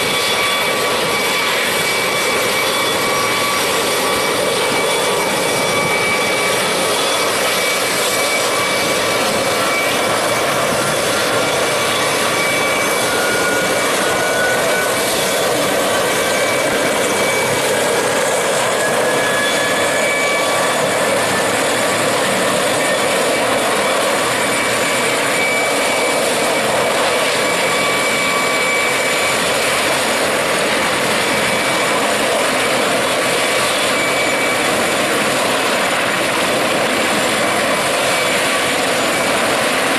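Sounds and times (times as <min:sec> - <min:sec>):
helicopter turbine engines whining: 0:00.0 - 0:39.9.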